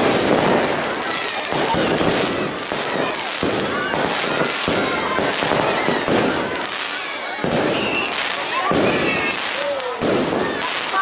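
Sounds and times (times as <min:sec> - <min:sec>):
fireworks crackling and banging: 0:00.0 - 0:11.0
people's voices: 0:00.0 - 0:11.0.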